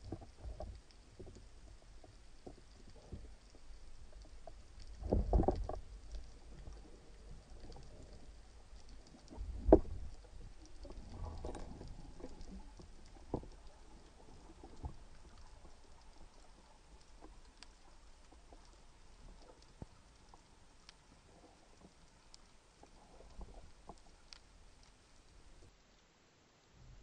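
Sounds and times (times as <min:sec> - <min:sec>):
low underwater rumble: 0:00.0 - 0:25.7
faint clicks: 0:00.0 - 0:26.0.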